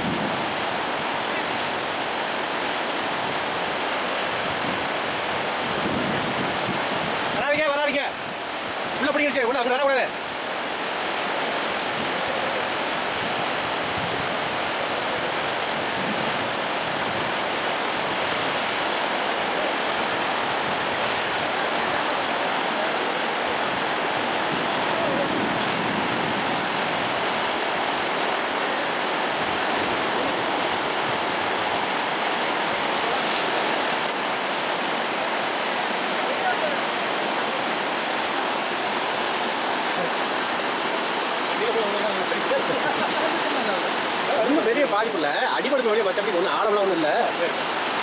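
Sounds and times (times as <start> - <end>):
floodwater rushing: 0.0 - 48.0.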